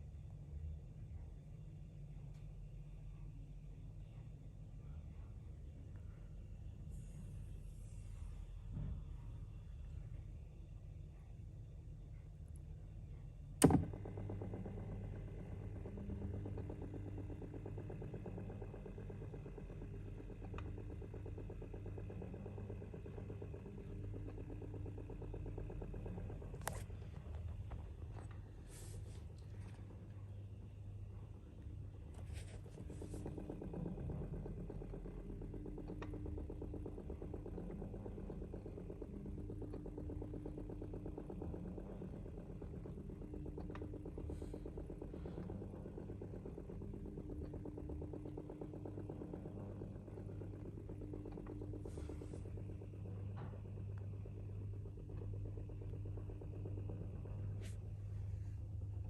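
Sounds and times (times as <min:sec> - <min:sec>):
washing machine pump humming: 0:05.8 - 0:59.0.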